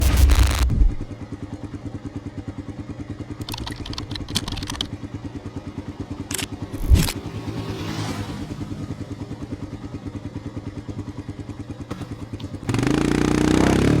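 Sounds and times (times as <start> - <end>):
motorcycle engine idling: 0.8 - 14.0.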